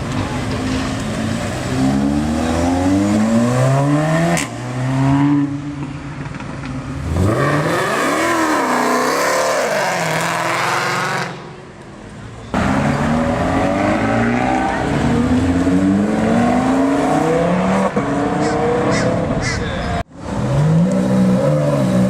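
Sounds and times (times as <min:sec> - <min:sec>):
car engines revving and accelerating: 0:00.0 - 0:11.8, 0:12.5 - 0:22.0.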